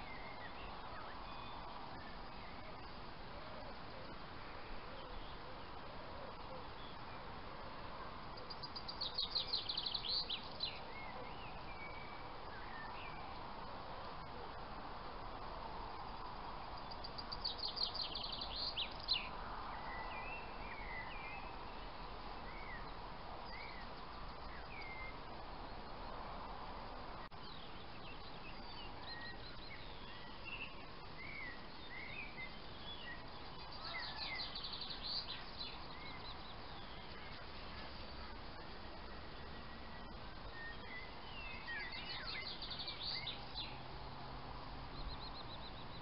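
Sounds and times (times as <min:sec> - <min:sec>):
songbirds singing: 0:00.0 - 0:46.0
steady background hiss: 0:00.0 - 0:46.0.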